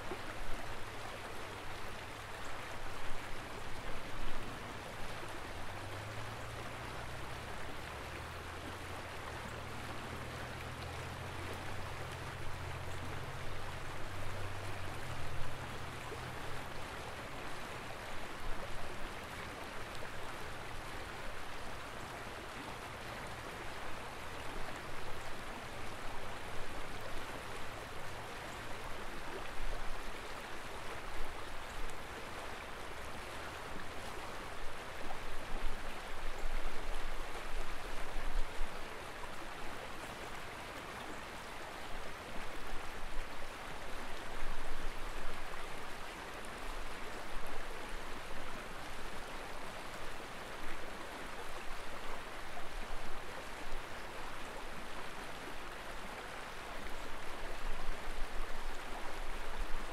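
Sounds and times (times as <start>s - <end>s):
river rushing over rocky rapids: 0.0s - 59.9s.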